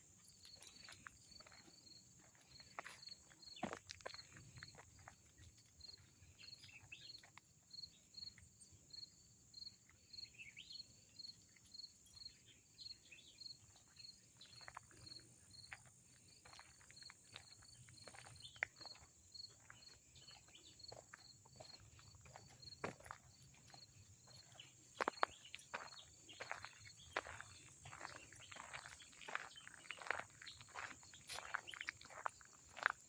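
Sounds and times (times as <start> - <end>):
cricket chirping: 0.0 - 33.0
insect chorus hissing: 0.3 - 33.0.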